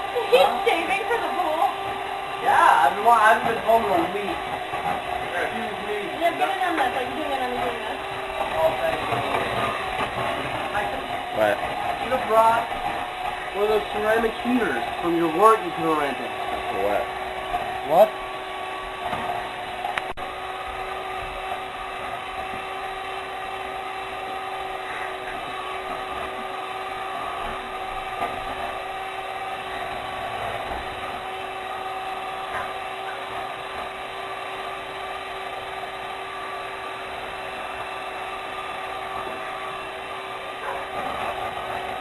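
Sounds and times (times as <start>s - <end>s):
electric hand mixer whining: 0.0s - 42.0s.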